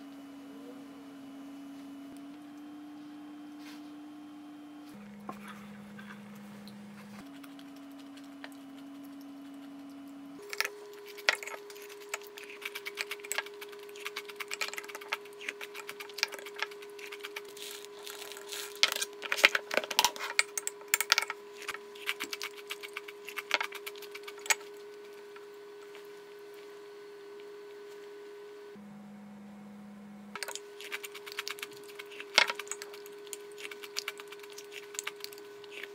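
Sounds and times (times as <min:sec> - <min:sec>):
faint hum: 0:00.0 - 0:35.9.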